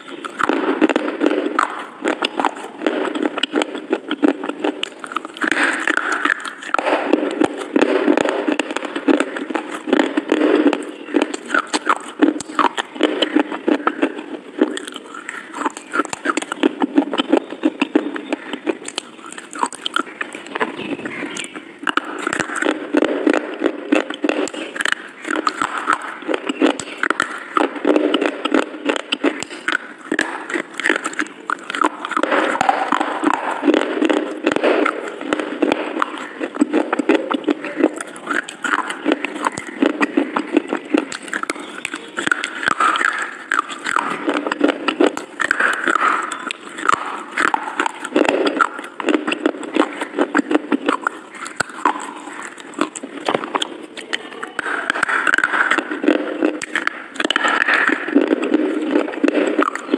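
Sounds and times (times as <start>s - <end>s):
crunching hard brittle sticks: 0.0s - 59.9s.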